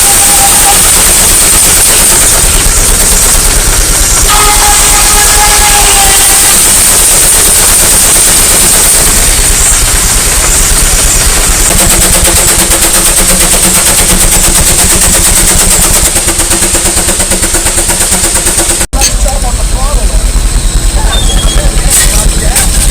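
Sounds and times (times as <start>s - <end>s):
steam engine exhaust chuffing: 0.0s - 22.9s.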